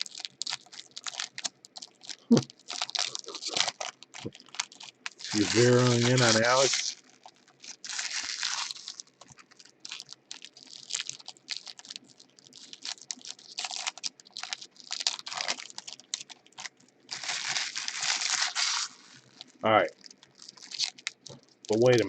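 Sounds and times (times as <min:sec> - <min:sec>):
card pack wrappers crinkling: 0:00.0 - 0:22.0.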